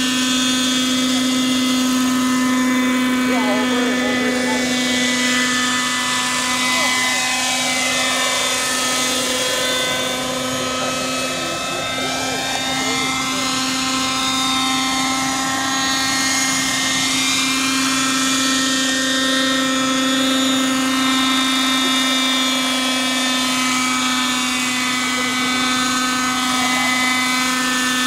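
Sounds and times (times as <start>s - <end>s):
model helicopter engine hovering: 0.0s - 28.0s.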